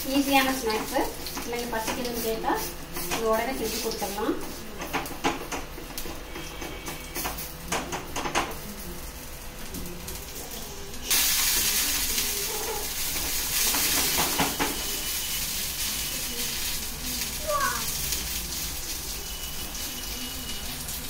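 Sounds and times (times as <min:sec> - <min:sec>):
oil sizzling on griddle: 0:00.0 - 0:21.0.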